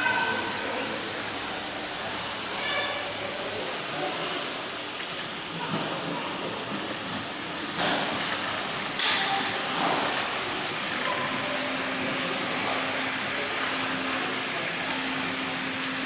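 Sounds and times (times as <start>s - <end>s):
large hall background noise: 0.0s - 16.0s.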